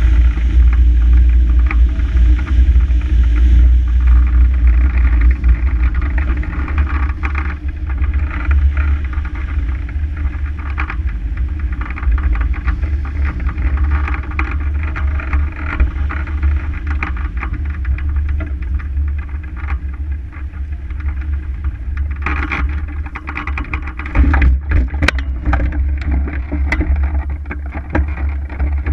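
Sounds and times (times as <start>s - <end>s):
wind buffeting camera: 0.0s - 28.9s.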